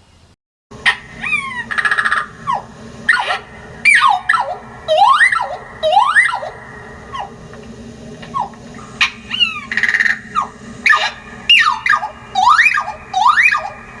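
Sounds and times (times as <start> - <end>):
harsh raspy buzz: 0.7 - 14.0
sharp sweeping whistles: 0.9 - 7.4, 8.3 - 14.0.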